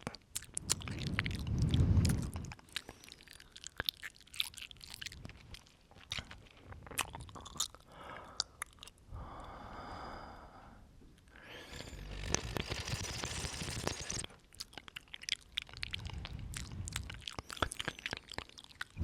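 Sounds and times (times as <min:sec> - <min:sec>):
wet mouth clicks and smacks: 0:00.0 - 0:09.0, 0:12.2 - 0:19.0.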